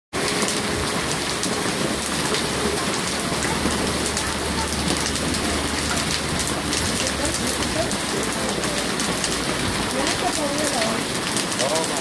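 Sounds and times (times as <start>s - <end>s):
heavy rain on flooded street: 0.1s - 12.0s
close raindrops spattering: 0.2s - 12.0s.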